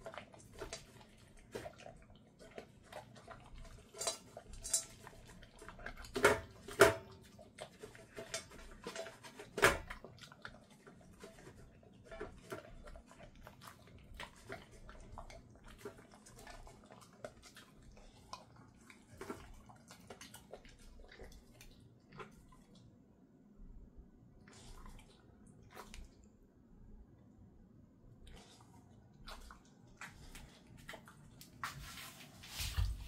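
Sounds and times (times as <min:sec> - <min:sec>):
dog licking and lapping: 0:00.0 - 0:23.0, 0:24.4 - 0:26.4, 0:28.1 - 0:33.0.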